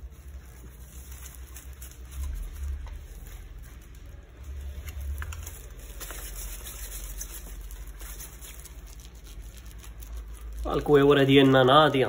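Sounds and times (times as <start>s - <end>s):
gloved hands rubbing and rustling: 0.0s - 12.0s
low steady hum: 0.0s - 12.0s.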